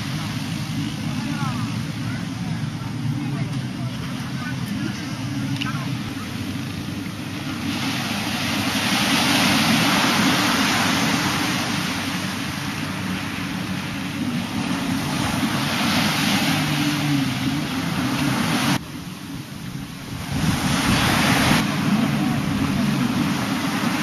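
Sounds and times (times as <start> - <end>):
jet ski engines droning: 0.0 - 24.0
surf washing up the beach: 0.0 - 24.0.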